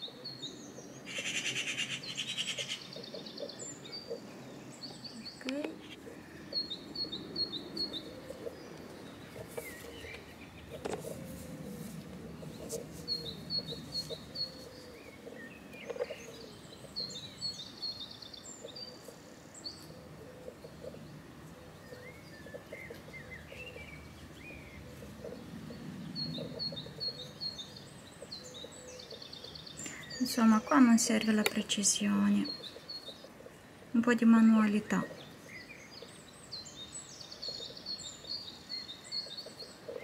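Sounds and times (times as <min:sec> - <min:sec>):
low outdoor background: 0:00.0 - 0:40.0
songbirds chirping and trilling: 0:00.0 - 0:40.0.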